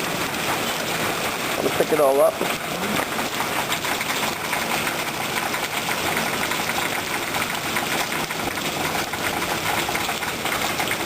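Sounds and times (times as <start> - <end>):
hail pattering: 0.0 - 11.0.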